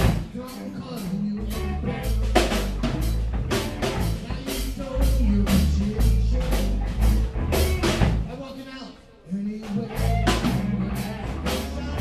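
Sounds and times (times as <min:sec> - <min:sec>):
live rock band playing: 0:00.0 - 0:08.4, 0:09.6 - 0:12.0.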